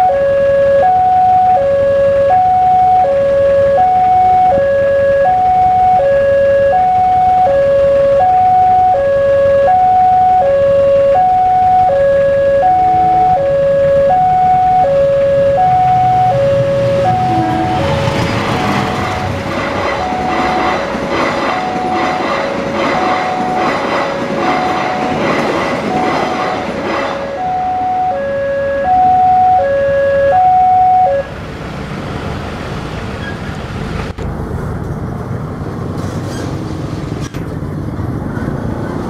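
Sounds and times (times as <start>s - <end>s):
two-tone level crossing alarm: 0.0s - 31.3s
train rumble: 0.6s - 39.0s.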